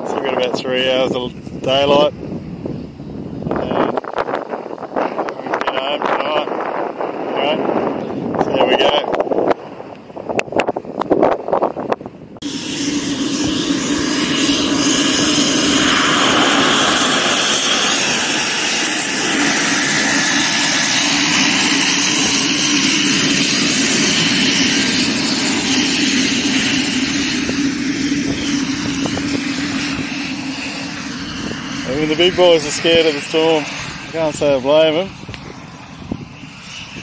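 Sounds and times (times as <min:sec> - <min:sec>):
propeller aircraft engine running: 0:00.0 - 0:37.0.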